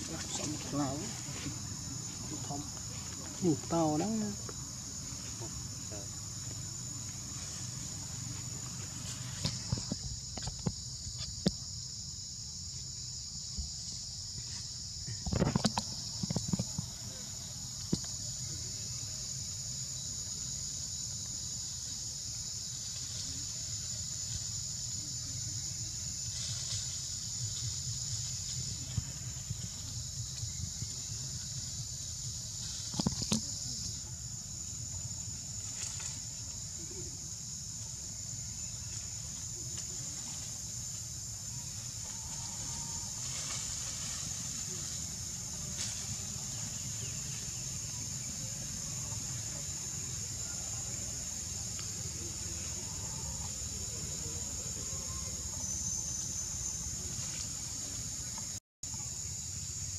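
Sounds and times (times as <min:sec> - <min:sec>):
high insect buzz: 0:00.0 - 0:59.9.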